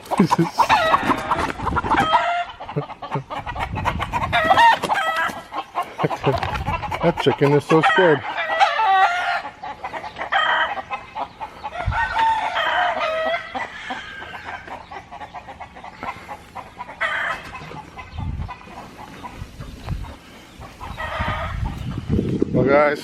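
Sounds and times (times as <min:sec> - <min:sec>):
chicken drawn-out call: 0:00.0 - 0:22.1
chickens clucking and squawking: 0:00.0 - 0:23.0.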